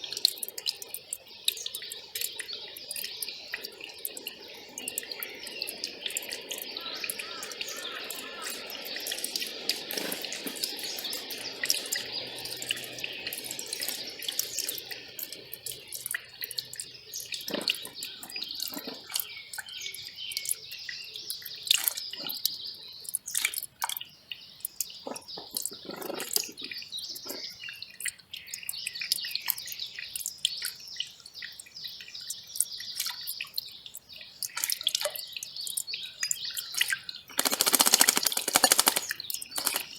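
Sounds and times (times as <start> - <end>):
birds chirping: 0.0 - 23.3, 24.4 - 39.9.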